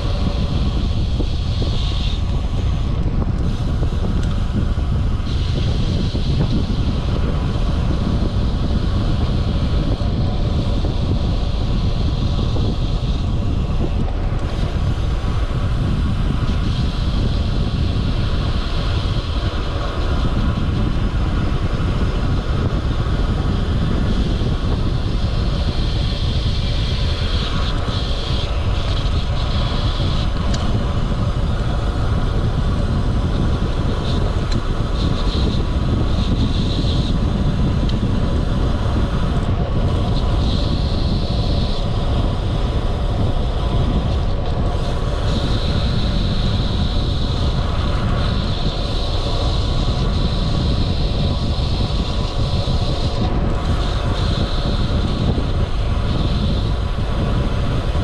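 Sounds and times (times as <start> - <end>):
tyres humming on road: 0.0 - 58.0
wind buffeting microphone: 0.0 - 58.0.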